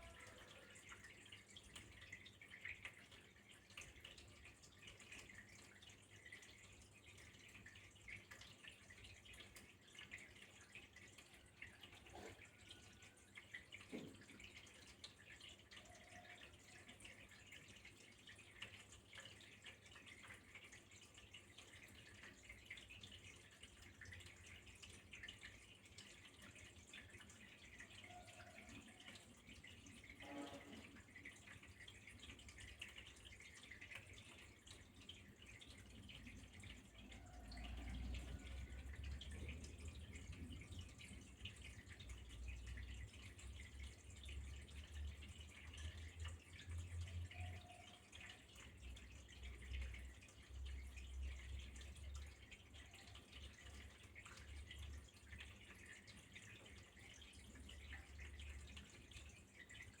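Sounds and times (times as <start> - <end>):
water trickling and dripping: 0.0 - 60.0.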